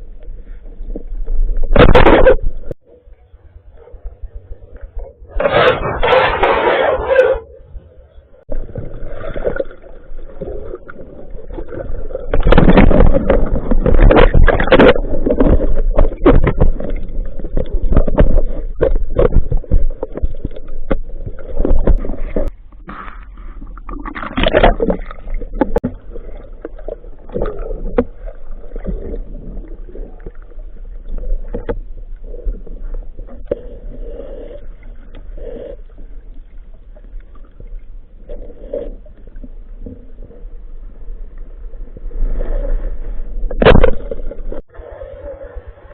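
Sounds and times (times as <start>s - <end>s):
muffled underwater rumble: 0.0s - 45.9s.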